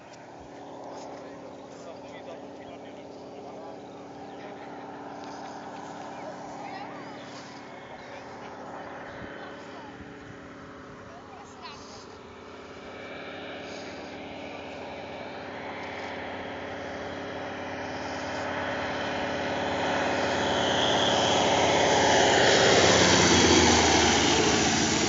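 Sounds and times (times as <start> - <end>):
propeller plane engine passing: 0.0 - 25.0.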